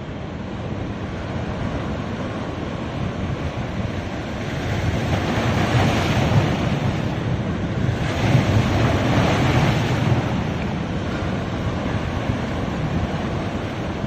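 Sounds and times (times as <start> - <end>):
ocean surf washing onto beach: 0.0 - 14.0
wind rumbling on microphone: 0.0 - 14.0.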